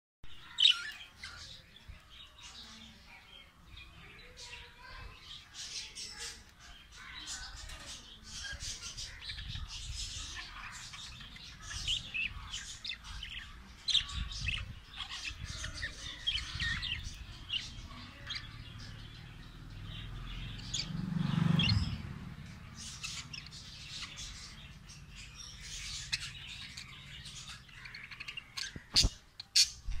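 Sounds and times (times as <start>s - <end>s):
budgerigars chirping: 5.6s - 30.0s.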